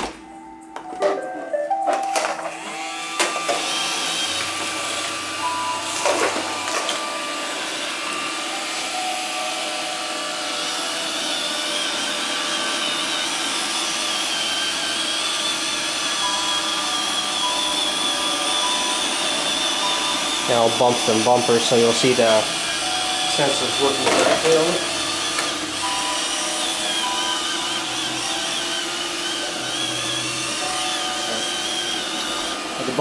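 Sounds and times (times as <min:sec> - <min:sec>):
vacuum motors whining: 0:00.0 - 0:33.0.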